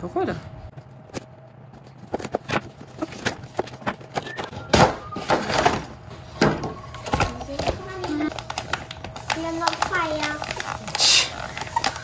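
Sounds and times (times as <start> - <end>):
cardboard and plastic rustling: 0.7 - 12.0.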